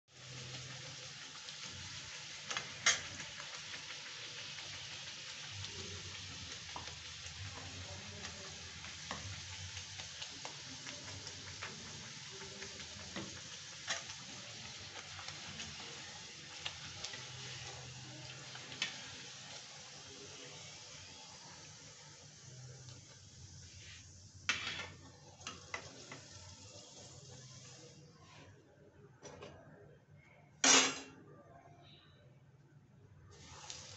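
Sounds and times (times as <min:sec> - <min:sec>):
bread deep-frying in oil: 0:00.0 - 0:28.4, 0:33.3 - 0:33.9.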